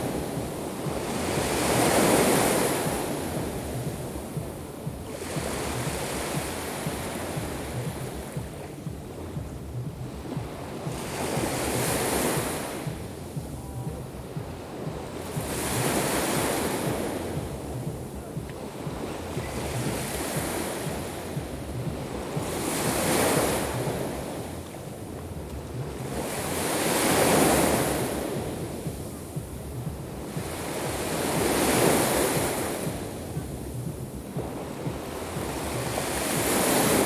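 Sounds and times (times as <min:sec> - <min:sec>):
sea waves breaking on shore: 0:00.0 - 0:37.0
wind rumbling on microphone: 0:00.0 - 0:37.0.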